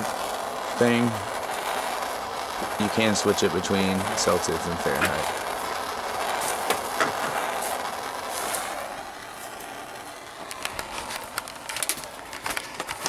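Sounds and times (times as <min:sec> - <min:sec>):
propane torch hissing: 0:00.0 - 0:13.0.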